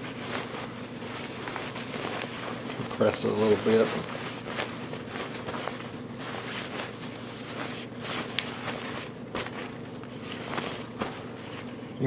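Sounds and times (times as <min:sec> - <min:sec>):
nylon fabric rustling: 0:00.0 - 0:11.8
steady low hum: 0:00.0 - 0:12.0.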